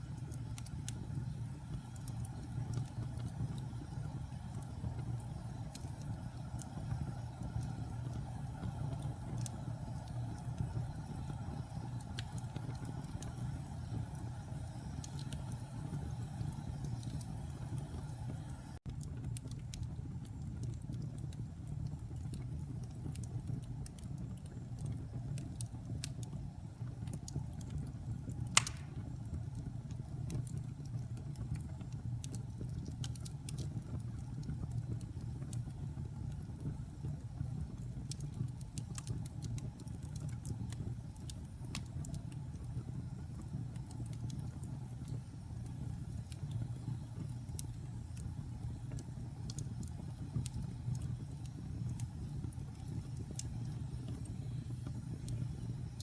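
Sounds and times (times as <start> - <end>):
fire crackling: 0.0 - 56.0
low rumble of flames: 0.0 - 56.0
wood fire popping: 0.0 - 56.0.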